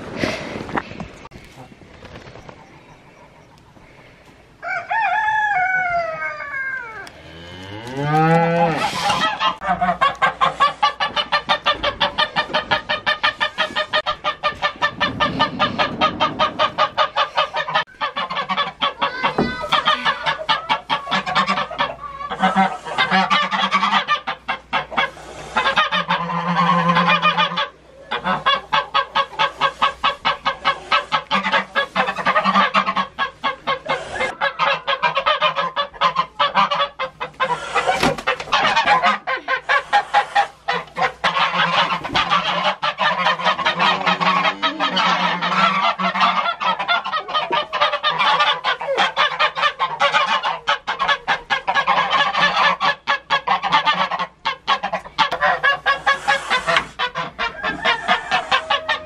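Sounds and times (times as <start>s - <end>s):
geese honking: 2.7s - 59.0s.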